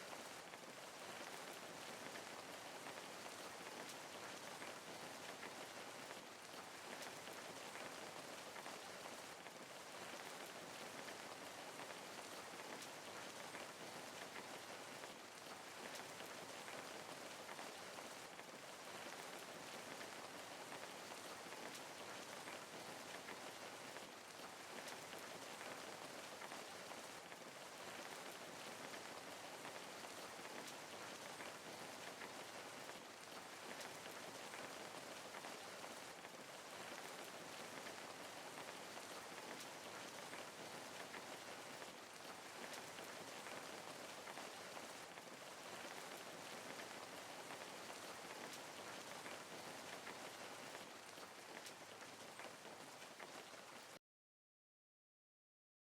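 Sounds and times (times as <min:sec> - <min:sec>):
rain patter: 0:00.0 - 0:54.0.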